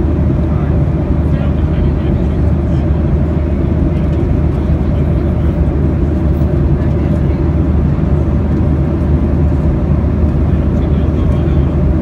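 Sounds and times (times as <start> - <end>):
jet engine and airflow drone: 0.0 - 12.0.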